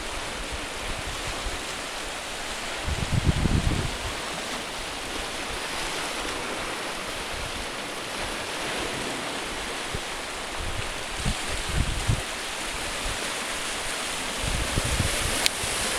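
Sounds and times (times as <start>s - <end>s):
waves washing onto shingle: 0.0s - 15.9s
wind rumbling on microphone: 0.0s - 15.9s.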